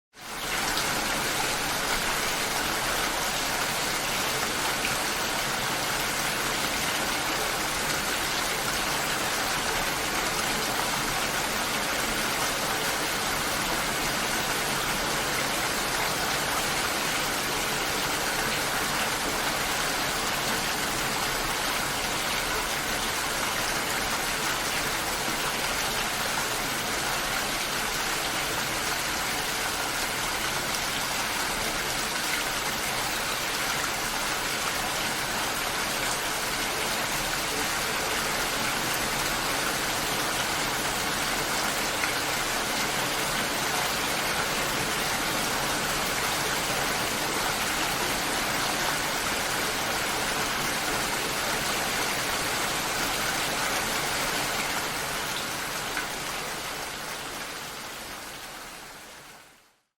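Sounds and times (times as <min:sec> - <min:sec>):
steady rain hiss: 0:00.1 - 0:59.9.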